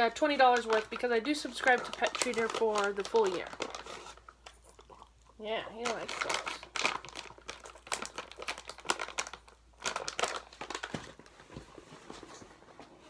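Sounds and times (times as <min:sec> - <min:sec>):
plastic packaging crinkling: 0:00.0 - 0:04.9, 0:05.8 - 0:12.3.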